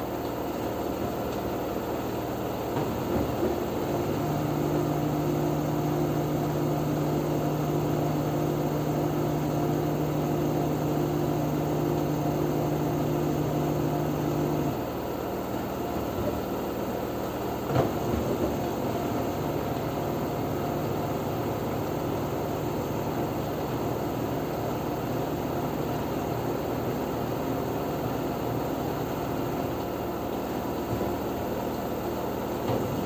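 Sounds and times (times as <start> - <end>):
washing machine spin hum: 0.0 - 33.0.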